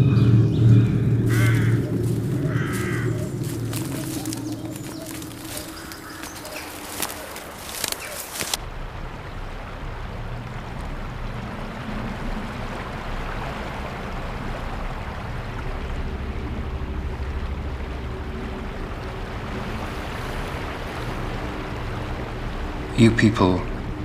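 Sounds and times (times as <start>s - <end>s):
wind: 0.0s - 24.0s
river water rushing: 0.3s - 24.0s.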